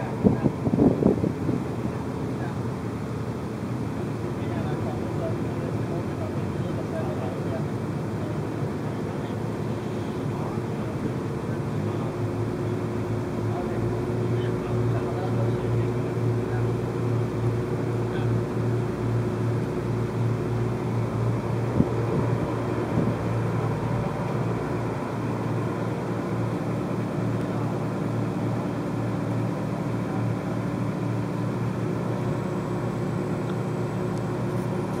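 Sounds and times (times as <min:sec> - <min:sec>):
ferry engine droning: 0:00.0 - 0:35.0.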